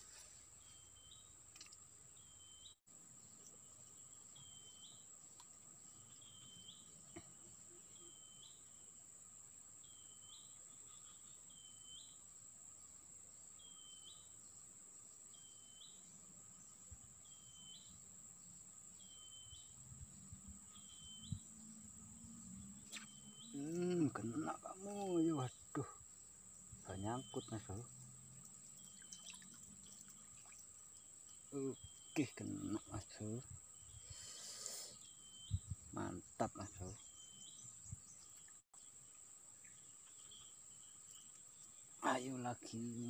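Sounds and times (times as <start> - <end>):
insect buzz: 0.0 - 43.0
rising insect chirp: 0.0 - 43.0.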